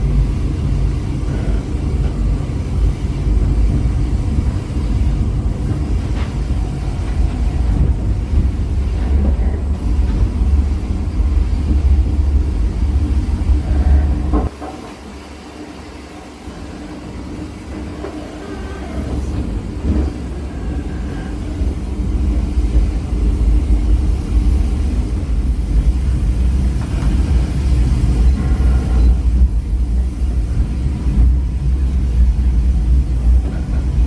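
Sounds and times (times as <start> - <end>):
train rumble inside carriage: 0.0 - 34.0.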